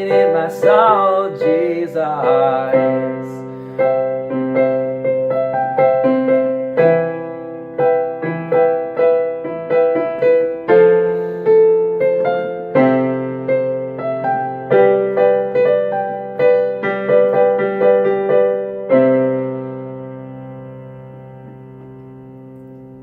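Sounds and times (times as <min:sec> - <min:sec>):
solo keyboard playing: 0:00.0 - 0:23.0.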